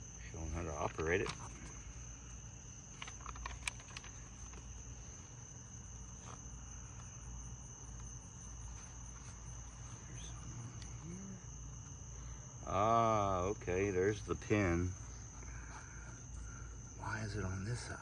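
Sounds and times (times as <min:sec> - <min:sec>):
high-pitched insect chirring: 0:00.0 - 0:18.0
low background hum: 0:00.0 - 0:18.0.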